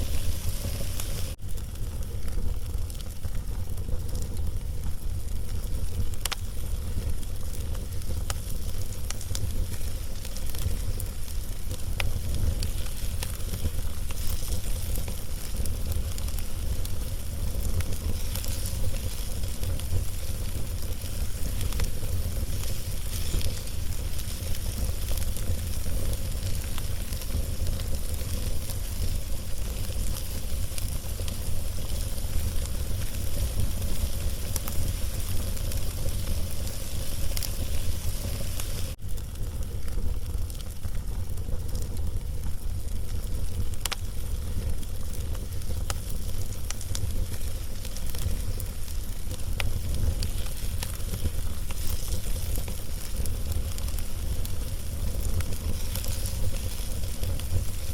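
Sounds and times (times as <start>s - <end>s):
log fire crackling: 0.0s - 57.9s
sharp pops of fire: 0.0s - 57.9s.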